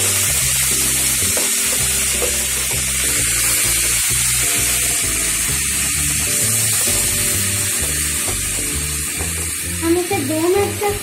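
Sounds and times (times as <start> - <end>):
background music: 0.0 - 11.0
masala sizzling in oil: 0.0 - 11.0.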